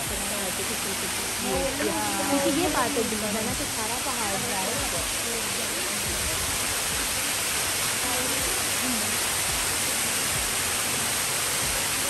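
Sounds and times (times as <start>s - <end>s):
small waterfall splashing into pool: 0.0s - 12.0s.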